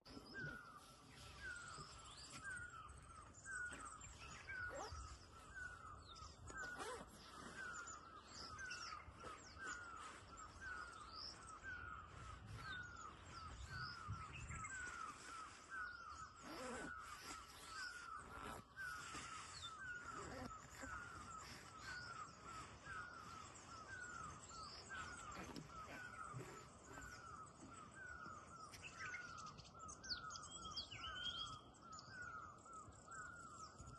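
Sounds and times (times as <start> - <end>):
birds chirping and whistling: 0.1 - 33.9.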